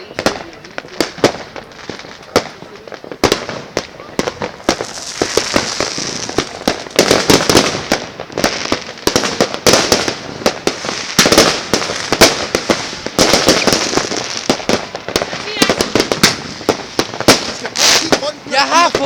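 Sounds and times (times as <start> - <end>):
crackling bursts: 0.0 - 19.0
fireworks and firecrackers banging: 0.0 - 19.0.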